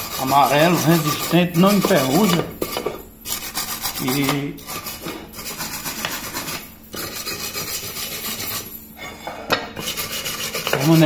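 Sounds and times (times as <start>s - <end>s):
wire brush scrubbing metal lid: 0.0s - 8.8s, 9.8s - 11.0s.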